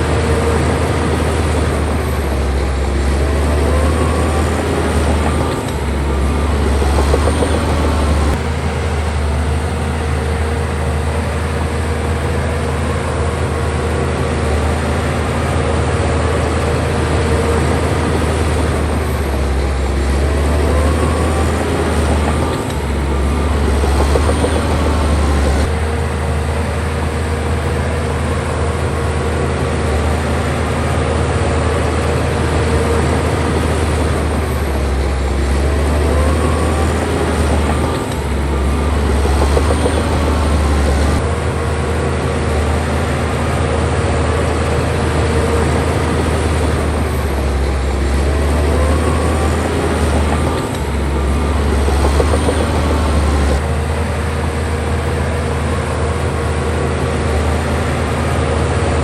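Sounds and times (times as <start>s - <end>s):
bulldozer diesel engine drone: 0.0s - 59.0s.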